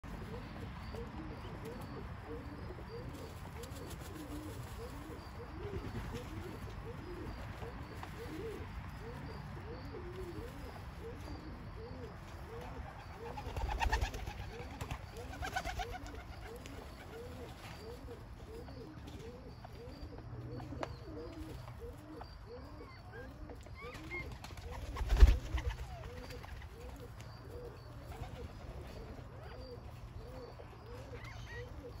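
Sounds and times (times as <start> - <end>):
quails calling softly: 0.1 - 32.0.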